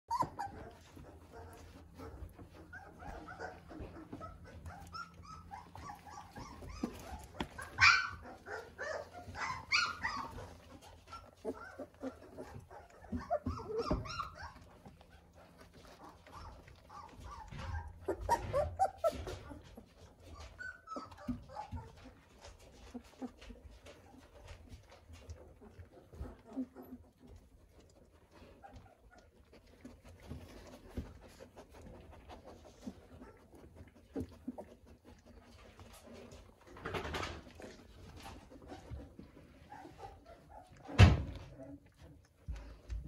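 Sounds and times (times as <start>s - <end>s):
puppies yelping and whining: 0.1s - 43.0s.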